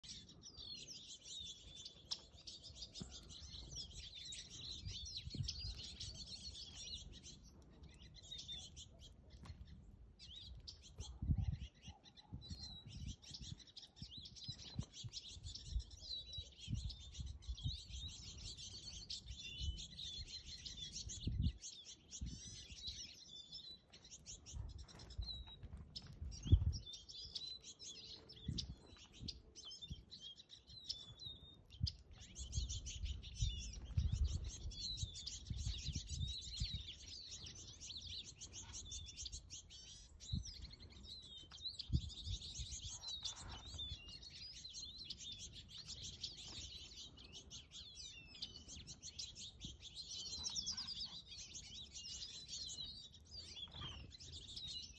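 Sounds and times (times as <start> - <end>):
songbirds chirping and twittering: 0.0 - 54.9.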